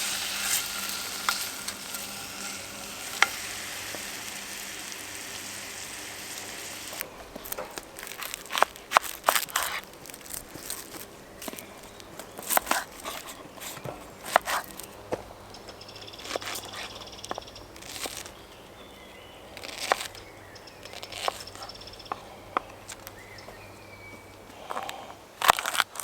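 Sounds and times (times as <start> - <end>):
birds calling: 0.0 - 25.4.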